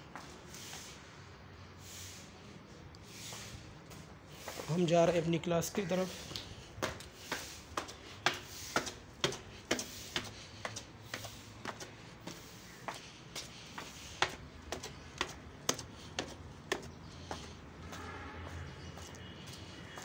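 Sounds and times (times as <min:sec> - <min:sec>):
footsteps on stone stairs: 0:00.0 - 0:00.9, 0:03.3 - 0:20.0.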